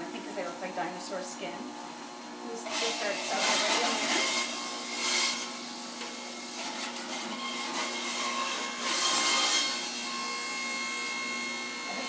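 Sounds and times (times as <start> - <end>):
juicer grinding greens: 0.0 - 12.0
electric juicer motor whining: 2.0 - 12.0.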